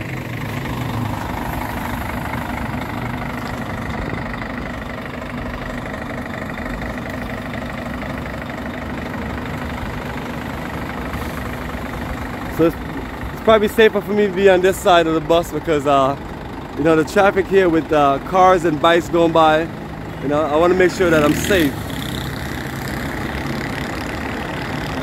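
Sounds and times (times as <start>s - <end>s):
diesel bus engine idling: 0.0s - 25.0s.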